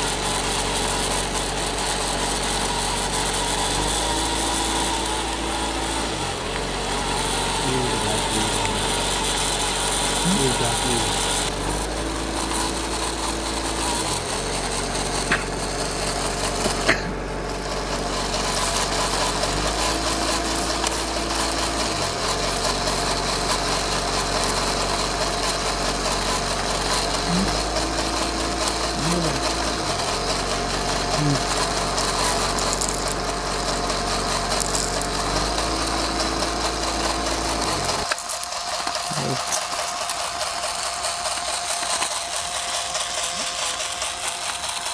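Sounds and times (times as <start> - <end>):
small electric motor running: 0.0 - 44.9.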